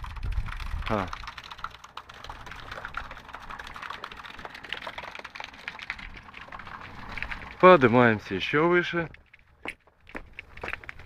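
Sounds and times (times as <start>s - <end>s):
fountain water splashing: 0.0s - 9.1s.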